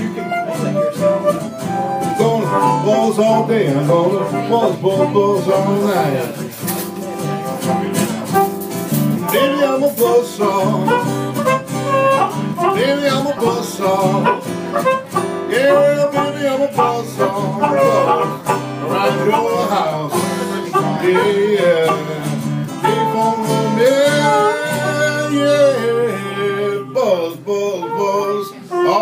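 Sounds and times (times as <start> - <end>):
guitar strummed: 0.0 - 29.0
harmonica playing lead: 0.0 - 29.0.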